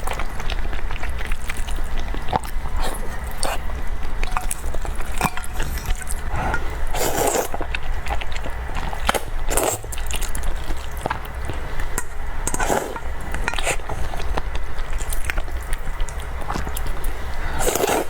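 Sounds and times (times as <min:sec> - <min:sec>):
cake being chewed: 0:00.0 - 0:18.0
steady low hum: 0:00.0 - 0:18.0.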